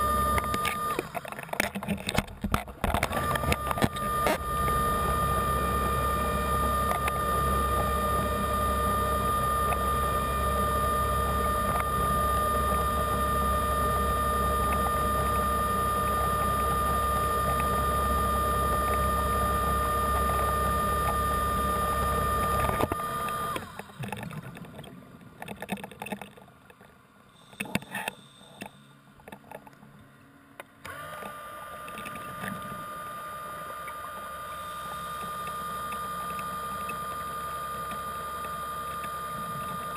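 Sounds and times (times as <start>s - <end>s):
underwater motor whine: 0.0s - 26.3s, 30.2s - 39.9s.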